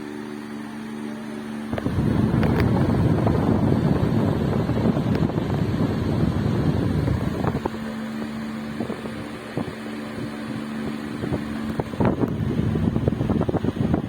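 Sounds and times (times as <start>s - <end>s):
fan motor hum: 0.0s - 14.0s
air buffeting microphone: 1.7s - 14.0s.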